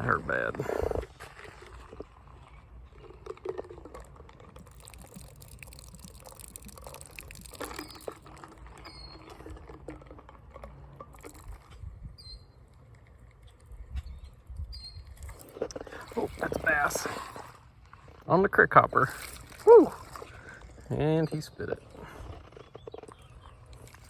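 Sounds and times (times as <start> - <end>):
creek water trickling: 0.0 - 24.0.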